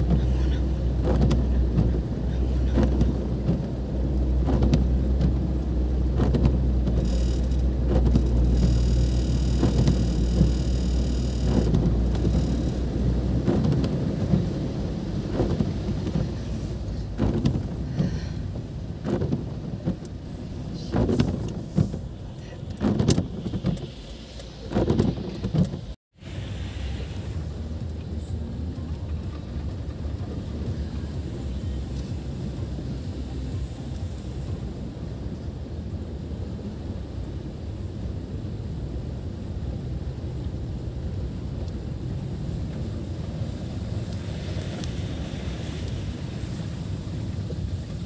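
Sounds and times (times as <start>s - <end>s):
rain beating on car: 0.0s - 48.0s
rumble of water and road noise: 0.0s - 48.0s.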